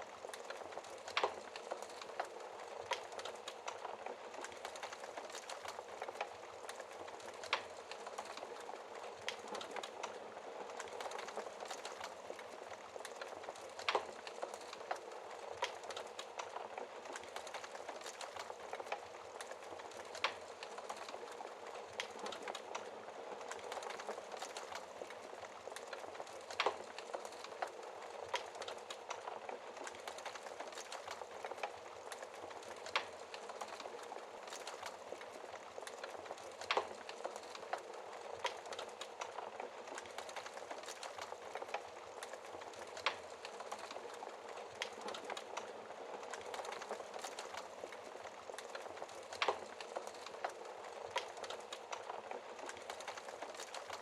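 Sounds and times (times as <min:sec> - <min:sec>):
fire popping and snapping: 0:00.0 - 0:54.0
wood fire crackling: 0:00.0 - 0:54.0.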